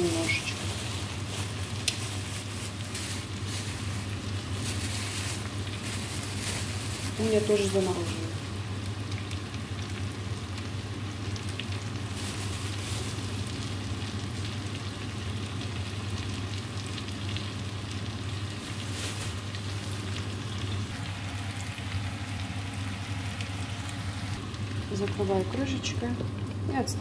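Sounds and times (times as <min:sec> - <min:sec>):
food sizzling in frying pan: 0:00.0 - 0:27.0.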